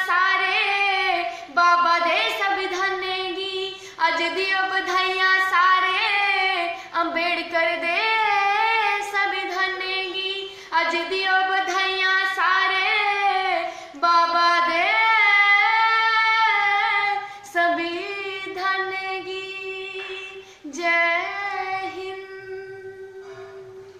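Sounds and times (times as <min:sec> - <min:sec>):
woman singing folk song: 0:00.0 - 0:23.9.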